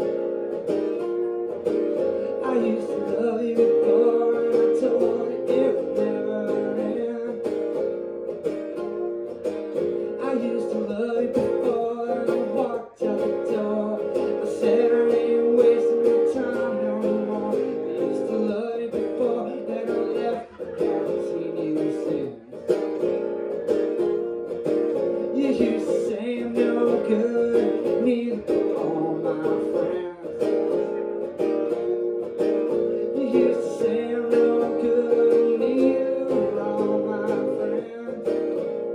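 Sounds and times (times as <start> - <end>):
acoustic guitar strumming blues: 0.0 - 38.9.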